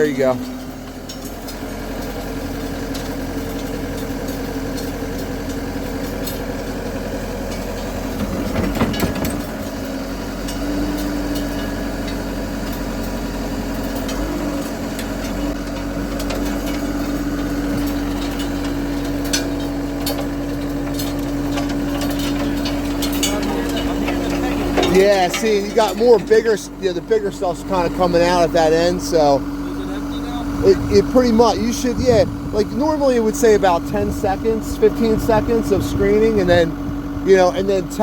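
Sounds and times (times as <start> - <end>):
diesel engine running: 0.0 - 38.0
steady machine whine: 0.0 - 38.0.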